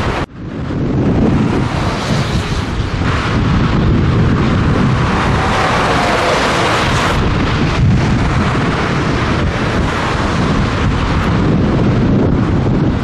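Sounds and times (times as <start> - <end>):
truck engine and road rumble: 0.0 - 13.0
wind buffeting microphone: 0.0 - 13.0.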